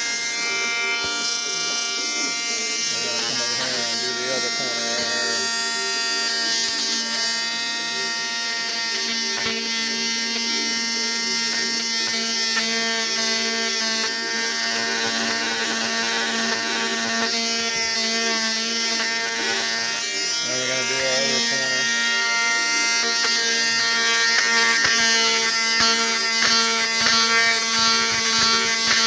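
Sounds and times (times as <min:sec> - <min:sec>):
electric sander buzzing: 0:00.0 - 0:29.0.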